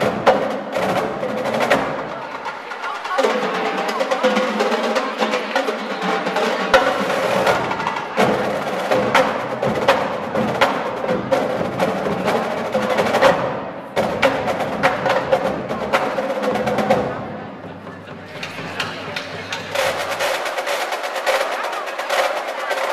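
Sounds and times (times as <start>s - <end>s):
marching drumline playing: 0.0s - 22.9s.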